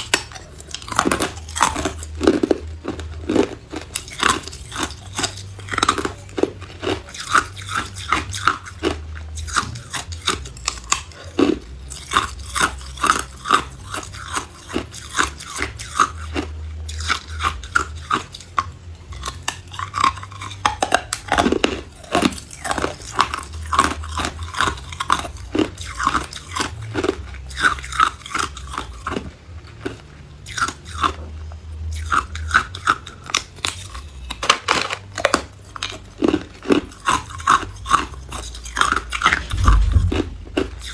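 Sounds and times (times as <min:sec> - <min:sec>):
ice cubes crunching: 0:00.0 - 0:31.2, 0:32.0 - 0:40.9.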